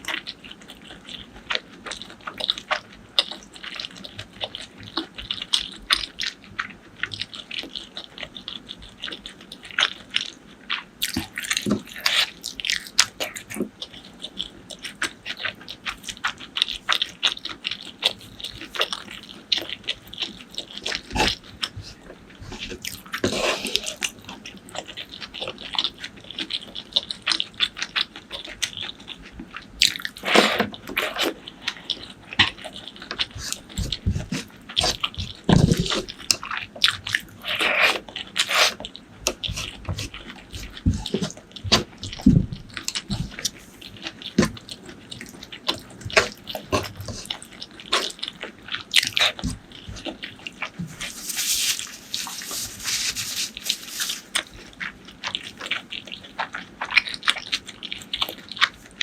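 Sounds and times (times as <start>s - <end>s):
person chewing and biting: 0.1s - 59.0s.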